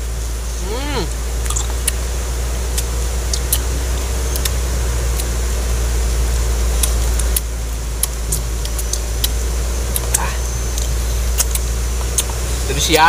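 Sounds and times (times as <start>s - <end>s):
low machine drone: 0.0s - 13.0s
mango being bitten and eaten: 0.4s - 12.6s.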